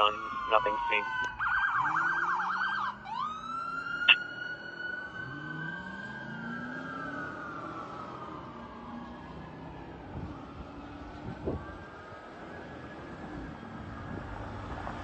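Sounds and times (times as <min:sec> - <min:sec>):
fire engine siren wailing: 0:00.0 - 0:15.0.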